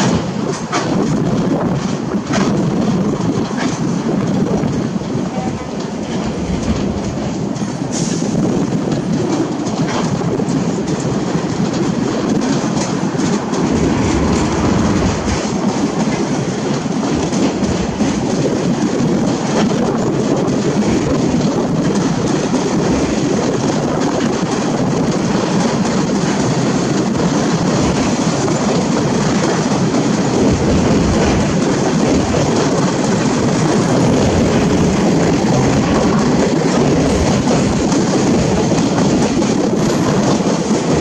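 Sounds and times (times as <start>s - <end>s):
train wagons rolling on rails: 0.0s - 41.0s
wind buffeting microphone: 0.0s - 41.0s.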